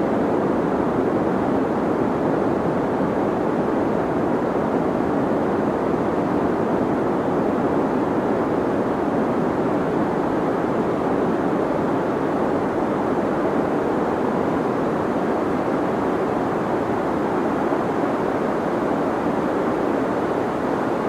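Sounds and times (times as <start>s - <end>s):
deep white noise hiss: 0.0s - 21.0s.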